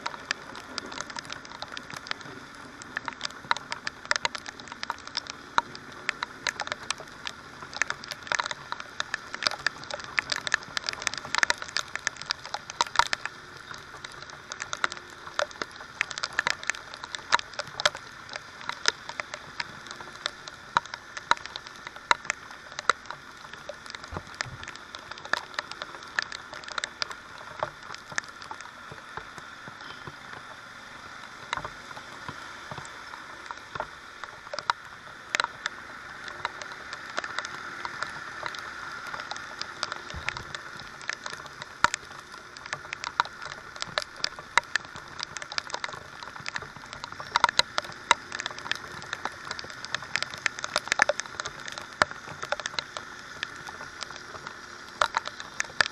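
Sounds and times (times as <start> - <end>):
rain hiss on wet road: 0.0 - 55.9
raindrops tapping on camera: 0.0 - 55.9.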